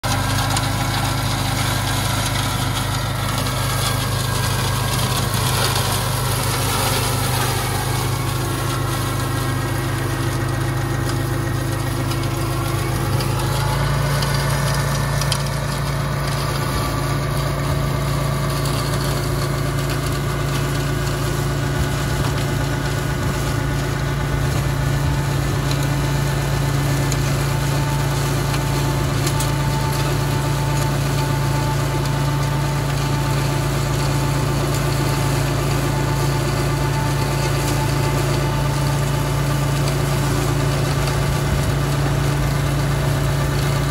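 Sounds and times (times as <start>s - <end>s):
flail mower cutting grass: 0.0s - 43.9s
tractor engine running: 0.0s - 43.9s.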